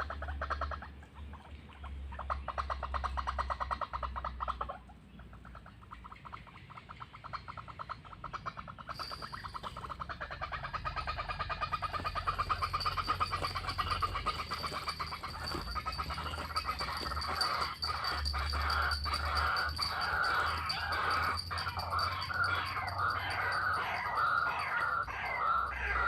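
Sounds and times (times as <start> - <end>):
waterhen calling: 0.0 - 26.0.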